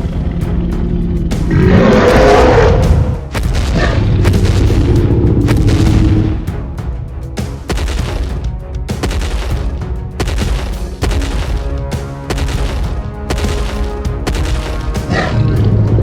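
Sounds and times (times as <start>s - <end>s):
booming drum hits: 1.3s - 16.0s.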